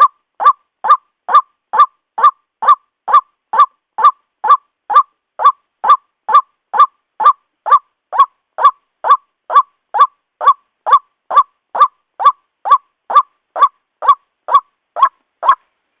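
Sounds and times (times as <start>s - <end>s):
waterhen calling kwak: 0.0s - 15.7s.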